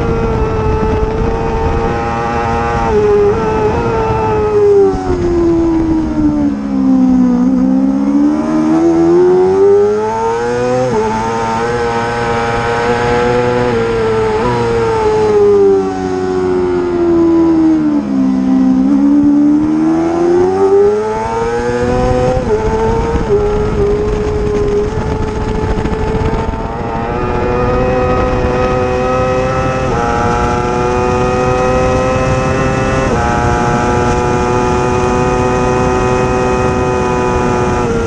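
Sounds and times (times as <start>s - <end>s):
racing motorcycle engine: 0.0s - 38.0s.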